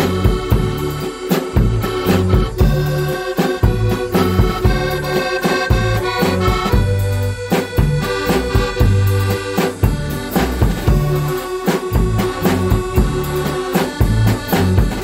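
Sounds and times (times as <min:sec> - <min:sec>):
accordion melody: 0:00.0 - 0:15.0
drum kit beat with cymbals: 0:00.0 - 0:15.0.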